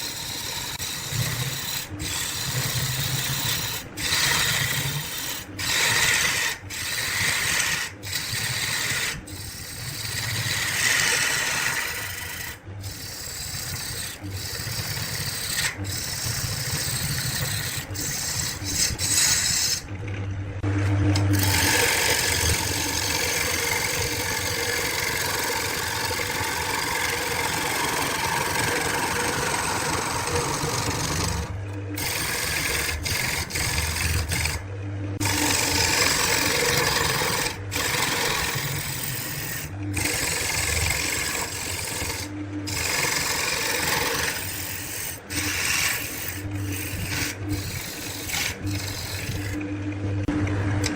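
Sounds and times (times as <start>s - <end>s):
lathe tool scraping wood: 0.0s - 20.0s, 21.2s - 49.6s
lathe motor hum: 0.0s - 50.9s.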